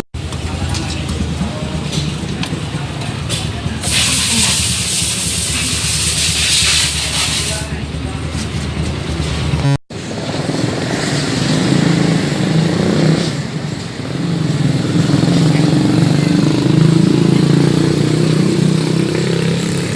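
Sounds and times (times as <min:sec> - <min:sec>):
loud motorcycle engine running: 0:00.0 - 0:19.9.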